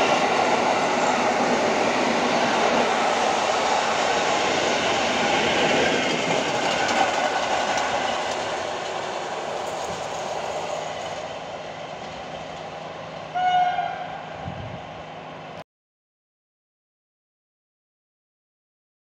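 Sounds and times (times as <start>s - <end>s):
passenger train passing: 0.0s - 15.6s.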